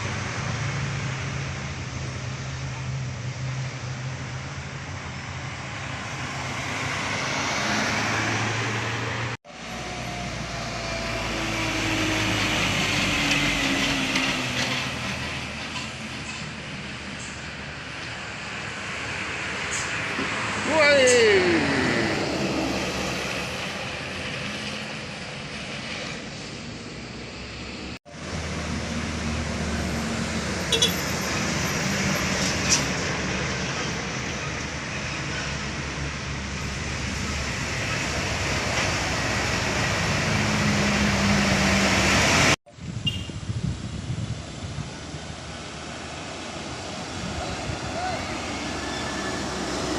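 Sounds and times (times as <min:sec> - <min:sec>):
road and tyre noise: 0:00.0 - 0:49.9
truck diesel engine under load: 0:00.0 - 0:49.9.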